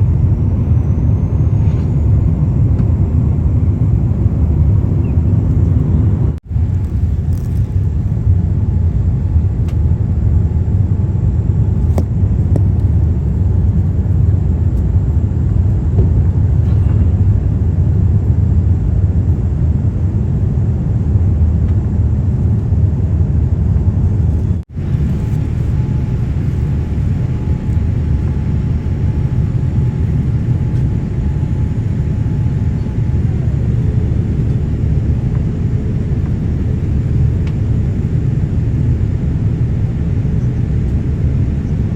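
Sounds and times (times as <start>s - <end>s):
jet engine cabin rumble: 0.0s - 41.9s.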